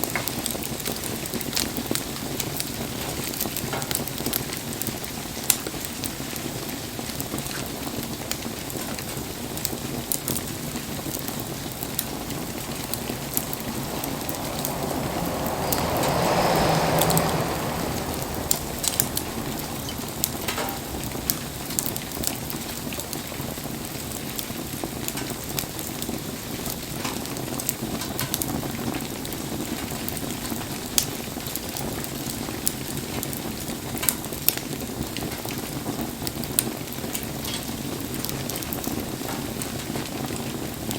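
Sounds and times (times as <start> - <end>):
bonfire crackling and popping: 0.0 - 40.9
rain falling: 0.0 - 40.9.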